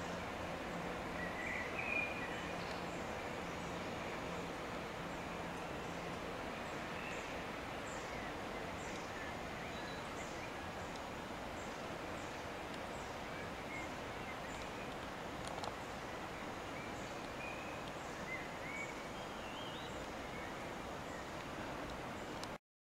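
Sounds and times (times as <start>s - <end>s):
outdoor background hiss: 0.0s - 22.6s
birds chirping: 1.2s - 22.4s.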